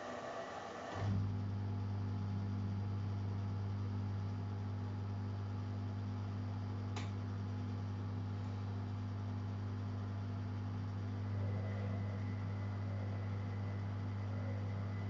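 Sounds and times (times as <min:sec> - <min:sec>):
washer-dryer electrical hum: 0:00.0 - 0:15.0.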